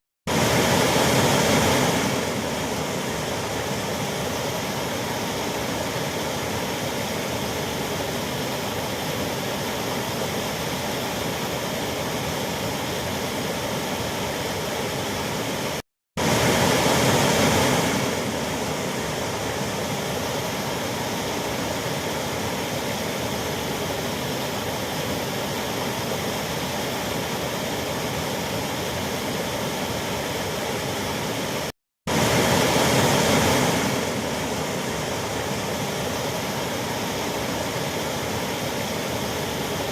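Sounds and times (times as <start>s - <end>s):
waterfall rushing: 0.3s - 39.9s.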